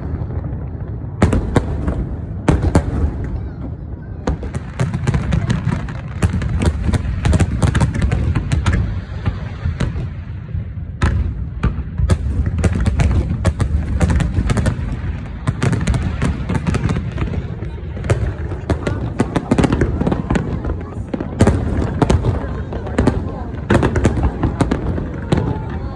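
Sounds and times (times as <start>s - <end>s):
fireworks crackling and banging: 0.0s - 25.9s.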